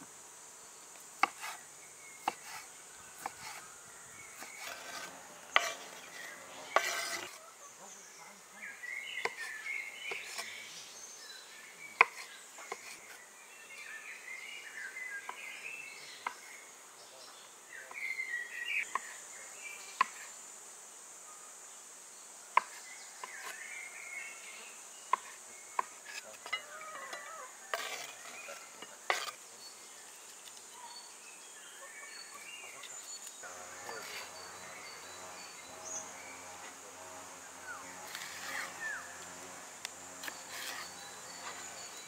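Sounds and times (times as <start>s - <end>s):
high insect drone: 0.0s - 42.0s.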